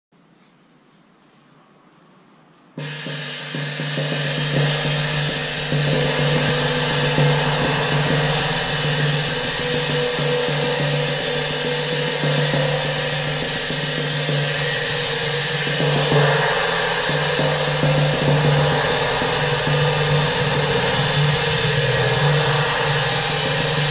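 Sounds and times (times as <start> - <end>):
cymbal rolled with soft mallets: 2.8 - 23.9
low hum: 2.8 - 23.9.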